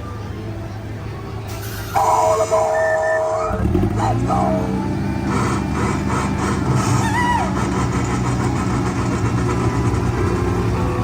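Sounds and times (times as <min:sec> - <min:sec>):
train chugging rumble: 0:00.0 - 0:11.0.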